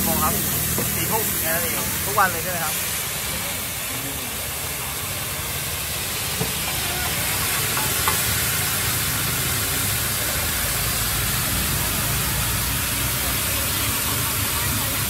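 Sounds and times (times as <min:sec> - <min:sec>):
noodles sizzling in pan: 0:00.0 - 0:15.0.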